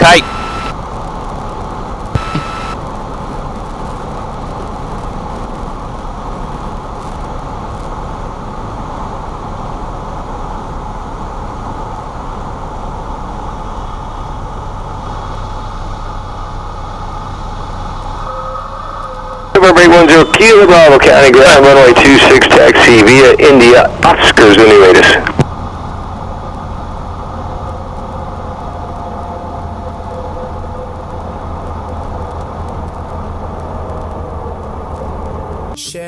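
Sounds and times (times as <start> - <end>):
small plane engine and airflow: 0.0 - 35.9
low steady hum: 0.0 - 36.0.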